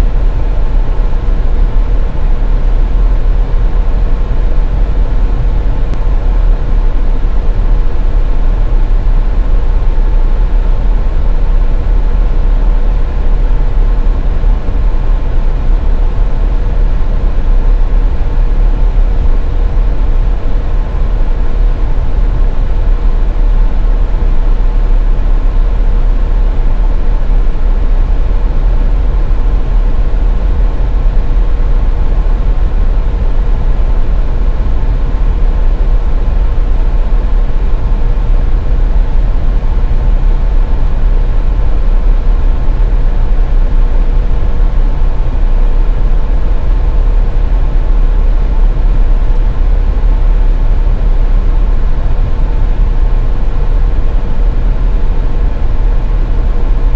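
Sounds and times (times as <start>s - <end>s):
car road and engine rumble: 0.0s - 56.9s
faint hum: 0.0s - 56.9s.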